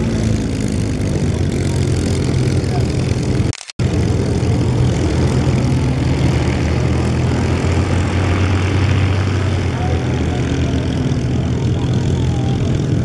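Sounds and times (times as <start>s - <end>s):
propeller aircraft engine idling: 0.0s - 13.0s.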